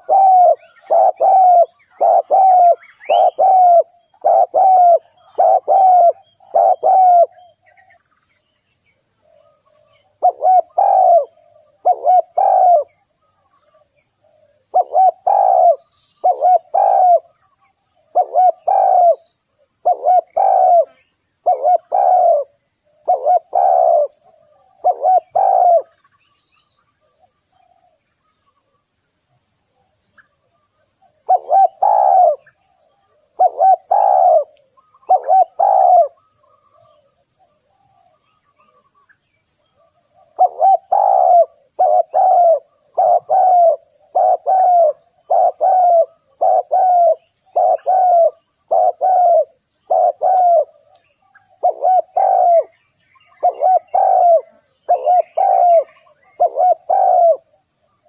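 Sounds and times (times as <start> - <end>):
dove cooing: 0.0 - 8.0, 9.2 - 26.0, 31.1 - 38.8, 39.8 - 57.6.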